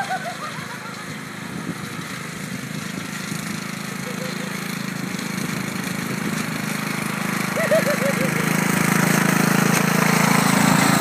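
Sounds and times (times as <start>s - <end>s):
riding lawn mower engine running: 0.0s - 11.0s.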